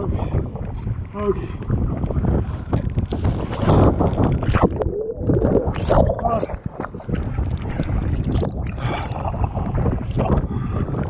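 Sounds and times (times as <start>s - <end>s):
water sloshing and gurgling: 0.0s - 11.0s
wind buffeting microphone: 0.0s - 11.0s.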